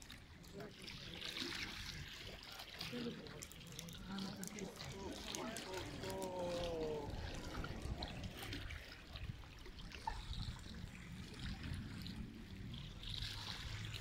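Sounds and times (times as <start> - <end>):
water lapping at shoreline: 0.0 - 14.0.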